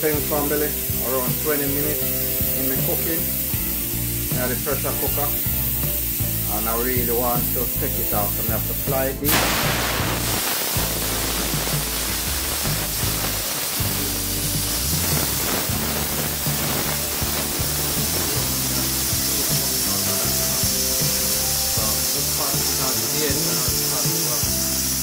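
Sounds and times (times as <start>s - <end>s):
background music: 0.0s - 25.0s
pressure cooker venting steam: 0.0s - 25.0s.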